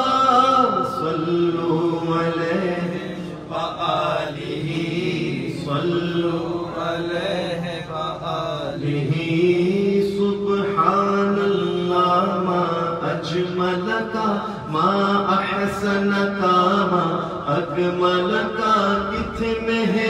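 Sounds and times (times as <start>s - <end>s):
man chanting into a microphone: 0.0s - 20.0s.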